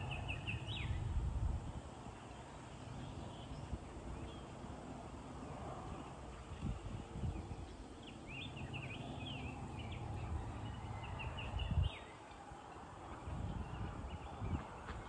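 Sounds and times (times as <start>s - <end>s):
birds chirping: 0.0s - 1.2s, 1.8s - 15.0s.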